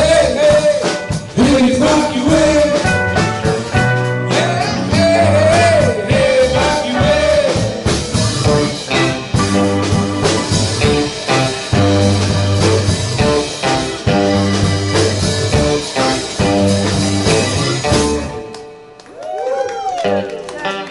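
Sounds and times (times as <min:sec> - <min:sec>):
live band playing: 0:00.0 - 0:20.9.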